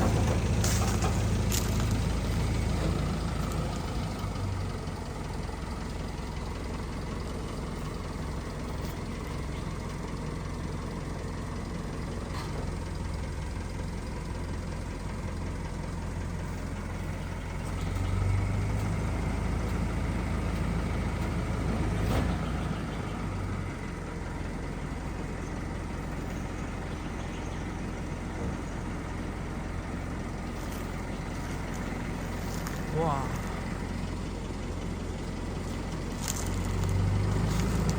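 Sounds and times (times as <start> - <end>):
heavy vehicle engine idling: 0.0 - 37.9.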